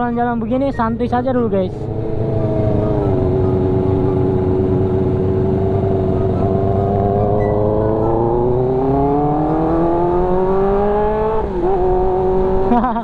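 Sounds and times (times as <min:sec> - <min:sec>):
motorcycle engine revving: 0:01.0 - 0:13.0.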